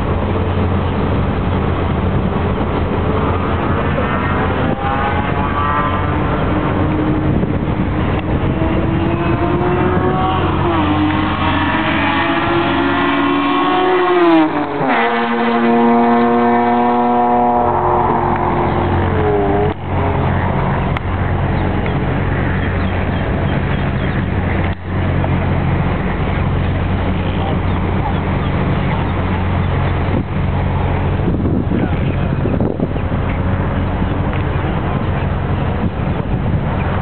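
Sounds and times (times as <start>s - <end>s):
low engine rumble: 0.0s - 37.0s
race car passing by: 0.0s - 37.0s.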